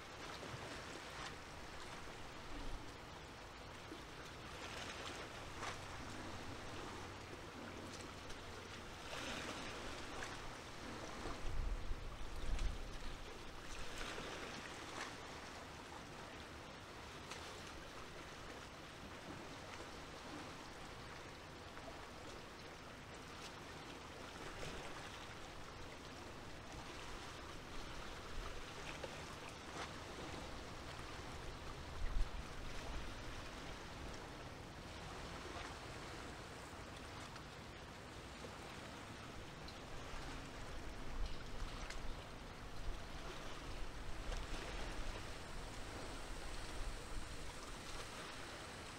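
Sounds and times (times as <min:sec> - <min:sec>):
small waves lapping at shore: 0:00.0 - 0:48.9.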